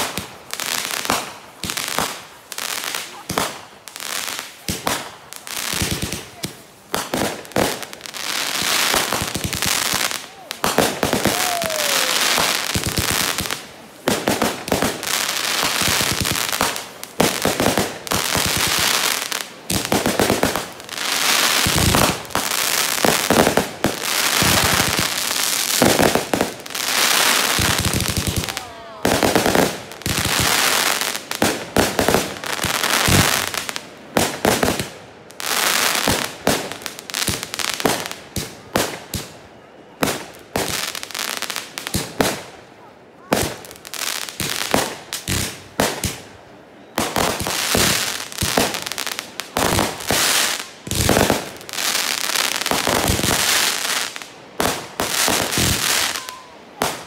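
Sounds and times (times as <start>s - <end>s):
fireworks bangs: 0.0s - 42.5s, 46.8s - 57.0s
fireworks crackling: 0.0s - 42.6s, 43.2s - 57.0s.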